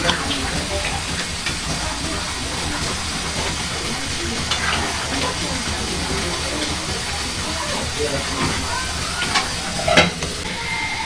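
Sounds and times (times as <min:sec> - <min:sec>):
faint voices: 0:00.0 - 0:11.0
steady hissing: 0:00.0 - 0:11.0.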